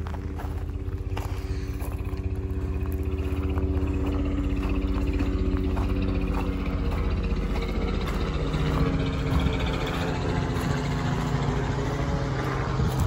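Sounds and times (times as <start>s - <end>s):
engine running steadily: 0.0s - 13.0s
footsteps: 0.0s - 13.0s.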